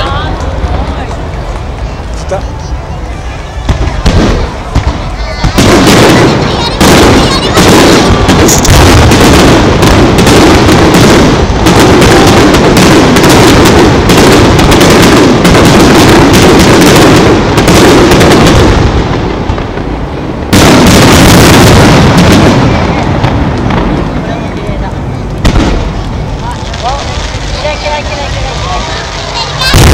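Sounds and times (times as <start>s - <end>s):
fireworks bursting: 0.0s - 29.9s.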